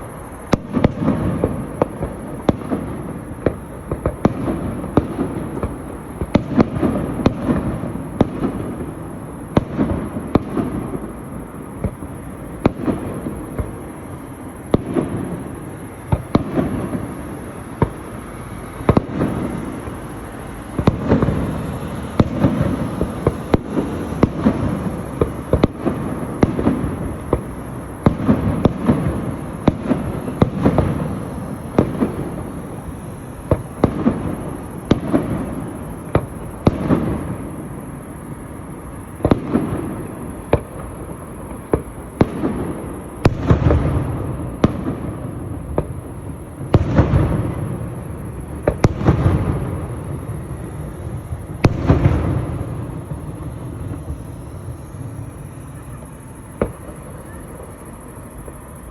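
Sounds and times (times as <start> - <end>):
fireworks bursting: 0.0 - 58.9.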